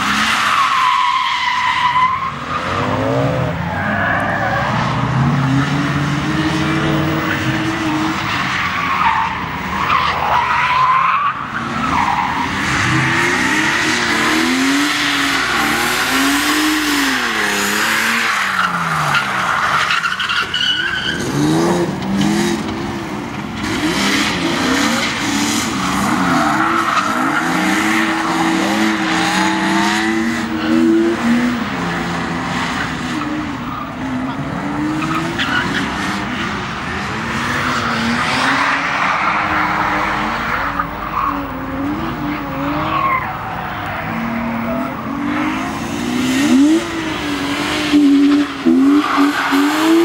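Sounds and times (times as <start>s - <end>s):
car engines revving: 0.0s - 50.0s
tyres squealing and skidding: 0.0s - 50.0s.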